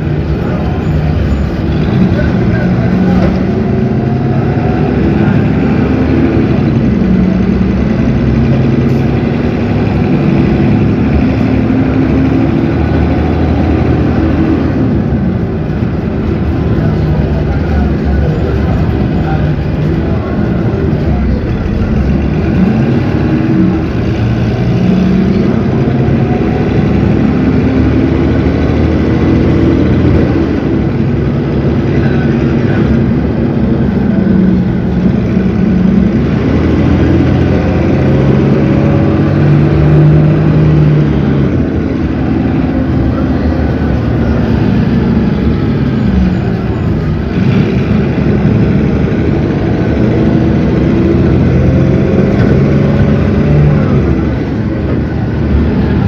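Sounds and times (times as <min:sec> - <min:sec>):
bus diesel engine revving: 0:00.0 - 0:56.0.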